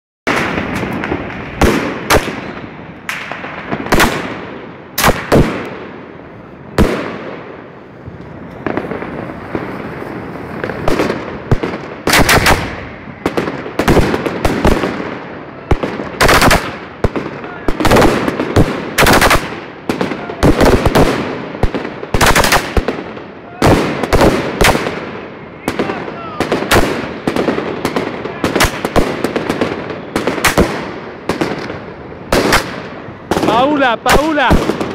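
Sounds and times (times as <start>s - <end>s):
fireworks bangs: 0.3s - 34.9s
fireworks crackling: 0.3s - 34.9s.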